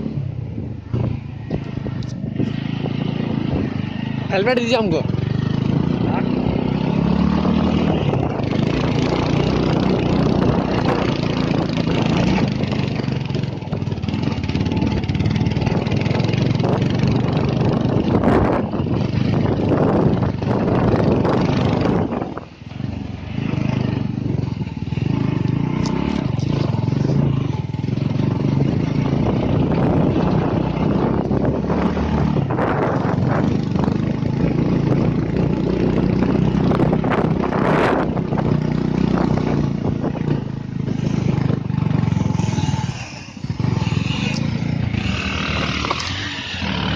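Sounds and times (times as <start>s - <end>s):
motorcycle engine running: 0.0s - 46.9s
road and wind noise: 0.0s - 46.9s.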